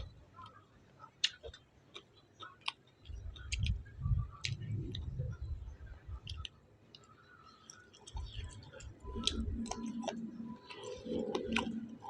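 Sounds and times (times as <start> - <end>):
close chewing and mouth smacks: 0.0 - 12.0.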